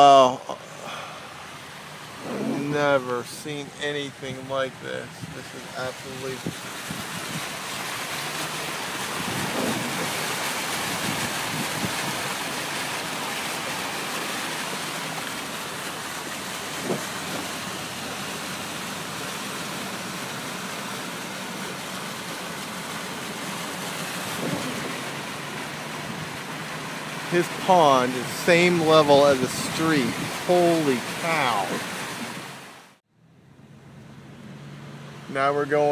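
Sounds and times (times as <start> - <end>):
rain and water rushing: 0.0 - 33.1, 33.9 - 35.9.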